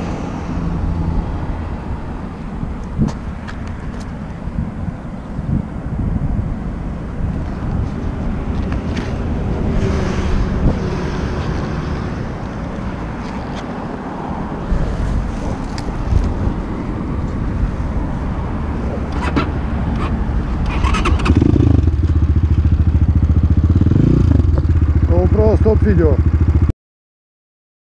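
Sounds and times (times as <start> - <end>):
wind buffeting microphone: 0.0 - 25.5.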